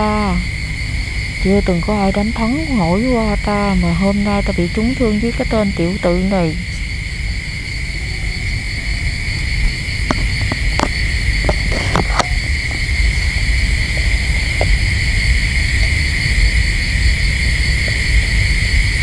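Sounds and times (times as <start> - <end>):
high insect chirring: 0.0 - 19.0.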